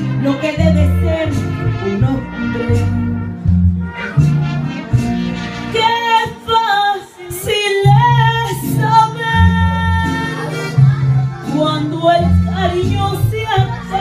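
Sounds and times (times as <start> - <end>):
woman singing into microphone: 0.0 - 3.1, 5.7 - 14.0
backing track with bass line: 0.0 - 6.5, 7.3 - 14.0.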